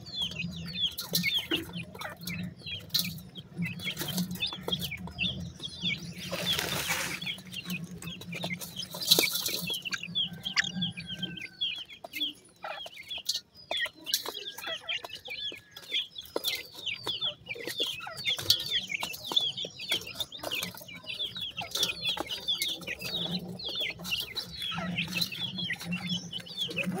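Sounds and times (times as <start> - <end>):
chicks peeping: 0.0 - 27.0.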